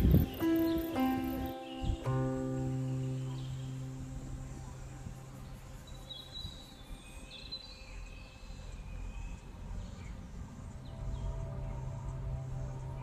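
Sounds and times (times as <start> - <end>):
bird chirping: 0.0 - 13.0
low outdoor background rumble: 0.0 - 13.0.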